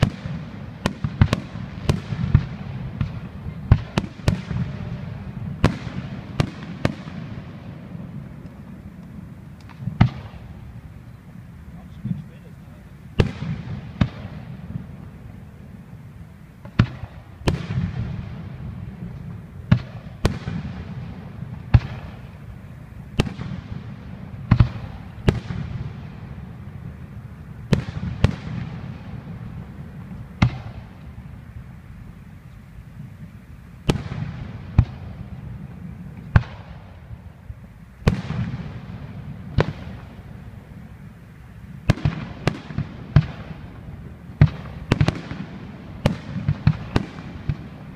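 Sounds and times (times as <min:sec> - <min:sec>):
fireworks bangs with echo: 0:00.0 - 0:31.9, 0:33.0 - 0:47.9.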